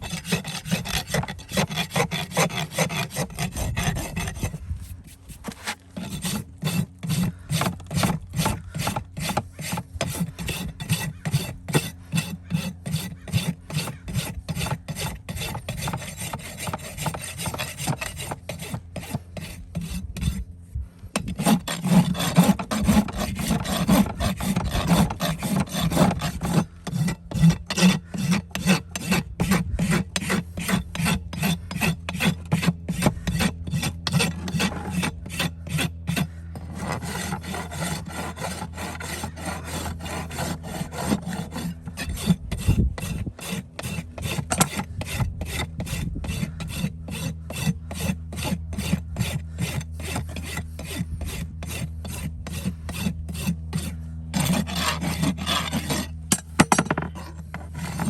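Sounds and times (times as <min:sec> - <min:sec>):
rasp filing a hoof: 0:00.0 - 0:58.0
steady low hum: 0:00.0 - 0:58.0.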